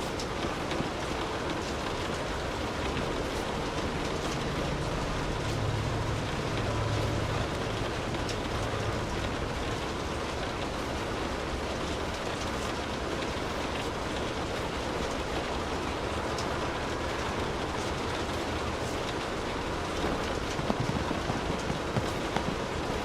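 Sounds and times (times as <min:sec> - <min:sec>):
rain drop ticks: 0:00.0 - 0:23.0
steady rainfall: 0:00.0 - 0:23.0.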